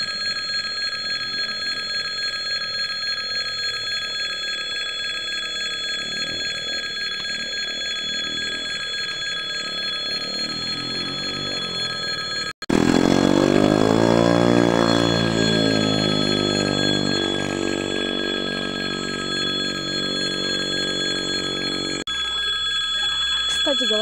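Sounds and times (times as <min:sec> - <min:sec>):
level crossing bell ringing: 0:00.0 - 0:24.0.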